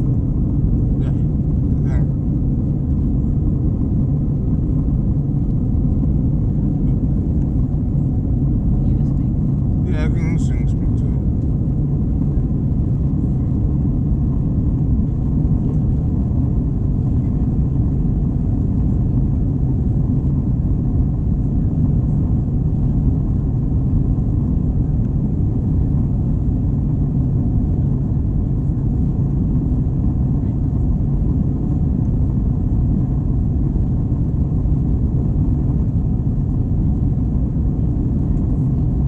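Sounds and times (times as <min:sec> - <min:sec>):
jet engine hum and airflow: 0:00.0 - 0:39.0.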